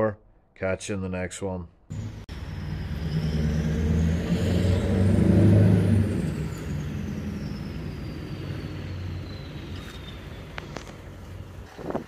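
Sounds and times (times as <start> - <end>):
heavy diesel vehicle passing: 1.9 - 11.6.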